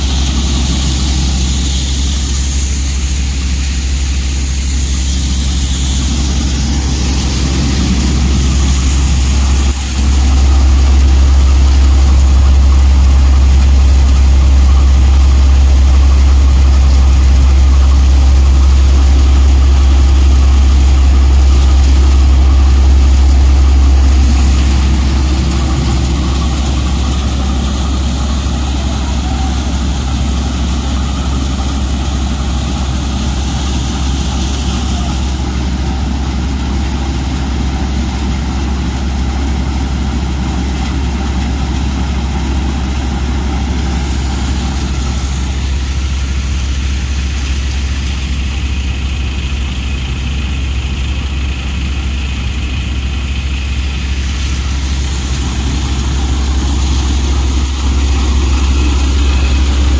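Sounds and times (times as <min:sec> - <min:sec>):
threshing machine droning: 0:00.0 - 0:59.9.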